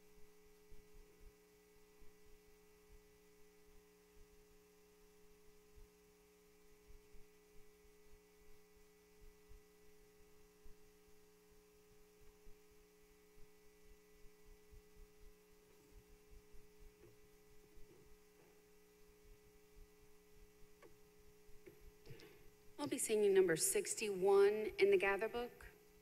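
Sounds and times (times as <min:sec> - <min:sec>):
faint steady hum of held tones: 0:00.0 - 0:26.0.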